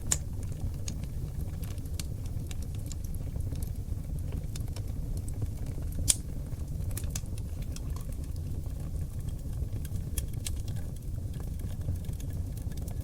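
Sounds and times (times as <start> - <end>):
fire crackles: 0.0 - 13.0
low rumble of flames: 0.0 - 13.0.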